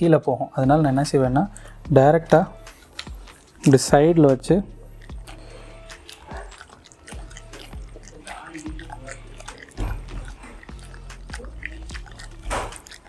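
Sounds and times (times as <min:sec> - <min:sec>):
dog licking and smacking lips: 0:02.5 - 0:13.0.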